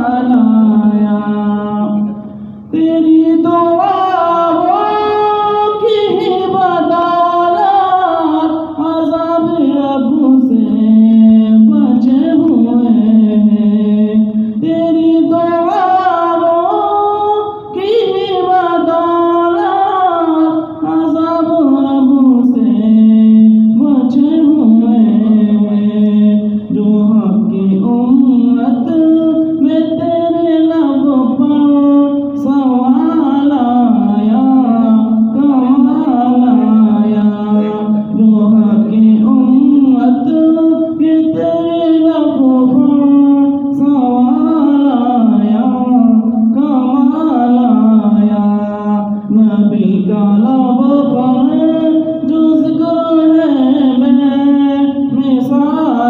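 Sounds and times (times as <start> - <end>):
man singing unaccompanied: 0.0 - 56.0.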